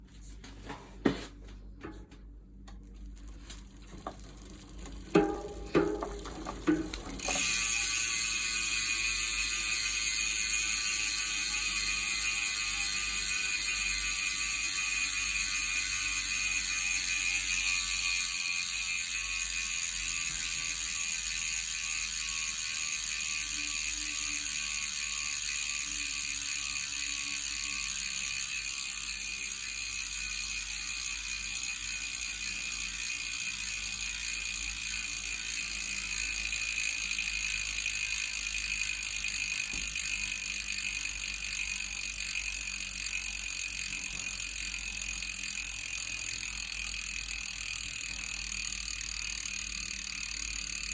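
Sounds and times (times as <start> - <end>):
bicycle hub freewheel clicking: 2.7 - 50.9.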